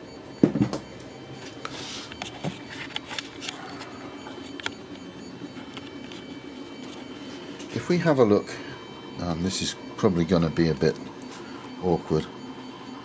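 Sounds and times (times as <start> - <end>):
three d printer whirring: 0.0 - 13.0.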